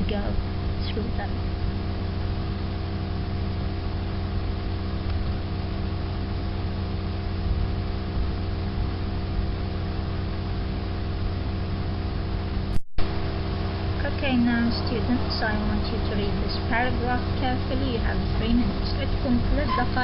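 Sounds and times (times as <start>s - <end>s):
low tonal hum: 0.0s - 20.0s.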